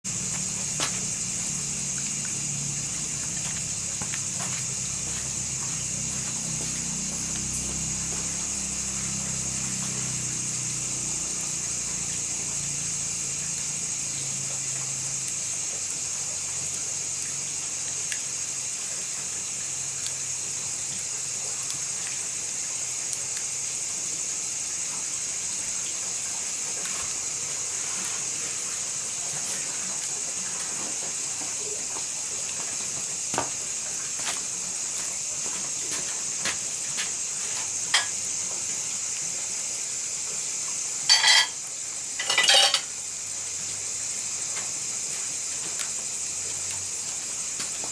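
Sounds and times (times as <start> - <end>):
steady high hiss: 0.0 - 47.9.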